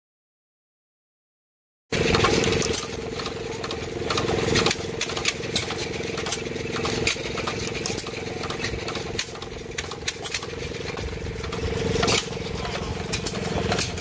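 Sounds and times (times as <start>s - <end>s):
old gas engine running: 1.9s - 14.0s
rapid clatter of sharp clicks: 2.0s - 14.0s.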